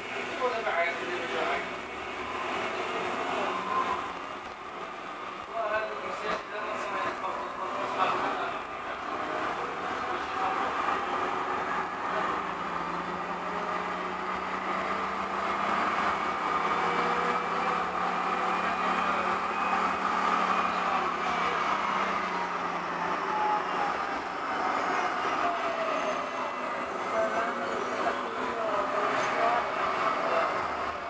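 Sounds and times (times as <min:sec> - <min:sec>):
tram rolling rumble: 0:00.0 - 0:31.0.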